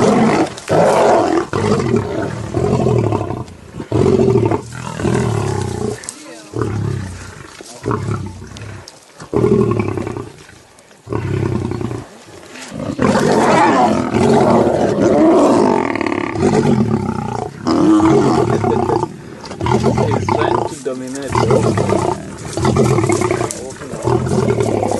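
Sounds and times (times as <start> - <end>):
lions growling: 0.0 - 24.9.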